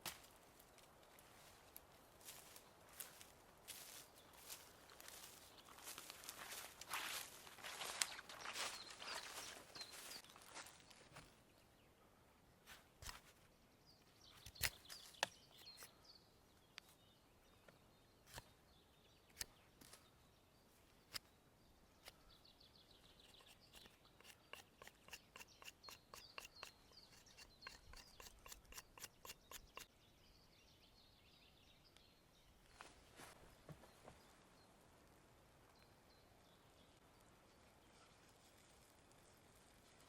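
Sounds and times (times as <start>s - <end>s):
faint birdsong: 0.6s - 40.0s.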